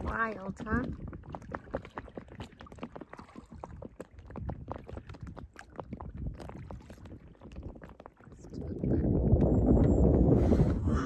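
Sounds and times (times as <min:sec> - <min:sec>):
water lapping around kayak: 0:00.0 - 0:11.0.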